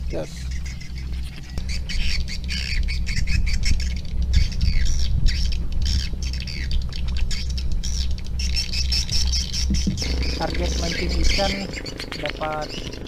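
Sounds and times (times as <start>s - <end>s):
birds squawking and chirping: 0.0s - 13.0s
steady low hum: 0.0s - 13.0s.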